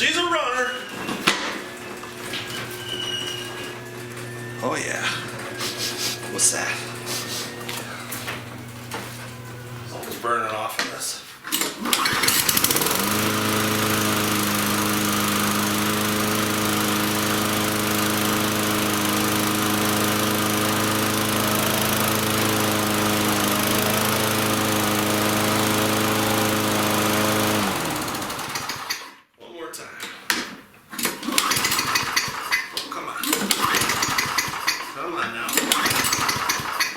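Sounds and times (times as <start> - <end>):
lawn mower engine running: 0.0 - 10.2, 11.5 - 29.2, 30.9 - 36.9.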